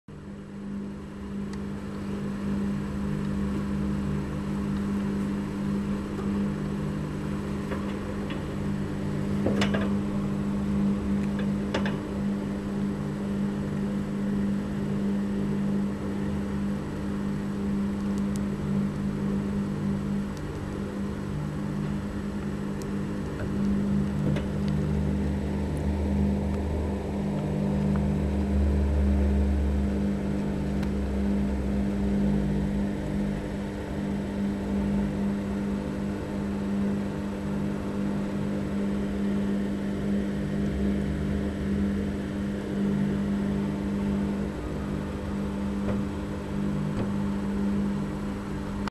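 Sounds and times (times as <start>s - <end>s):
steady low hum: 0.1s - 48.9s.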